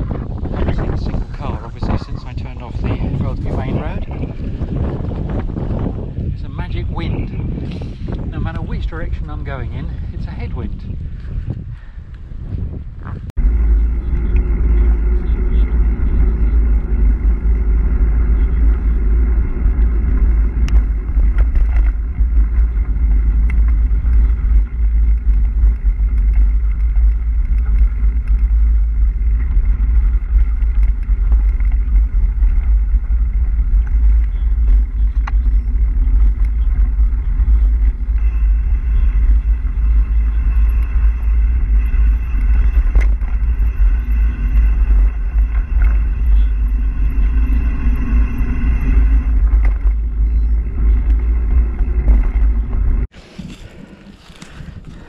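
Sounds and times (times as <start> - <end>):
bike tyres on gravel: 0.0 - 55.0
wind buffeting microphone: 0.0 - 55.0.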